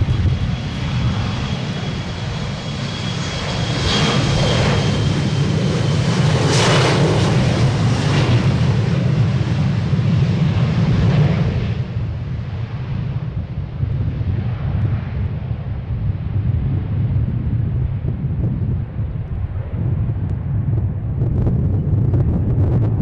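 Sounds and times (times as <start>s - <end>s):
jet engines rumbling and whining: 0.0s - 23.0s.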